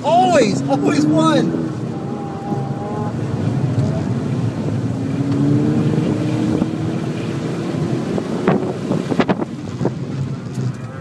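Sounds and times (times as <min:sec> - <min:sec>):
car engine under throttle: 0:00.0 - 0:11.0
road and wind noise: 0:00.0 - 0:11.0.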